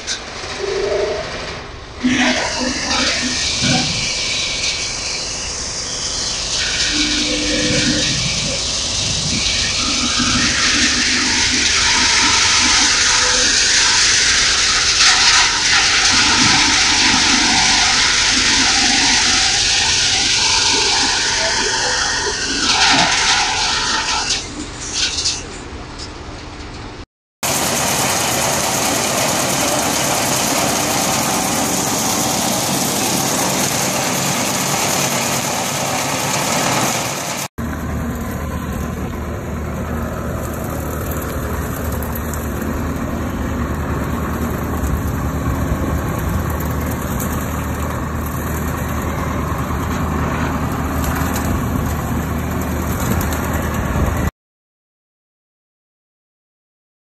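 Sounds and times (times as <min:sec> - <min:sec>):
machine rushing noise: 0:00.0 - 0:24.5, 0:27.4 - 0:54.3
mechanical hum with low drone: 0:00.0 - 0:54.3.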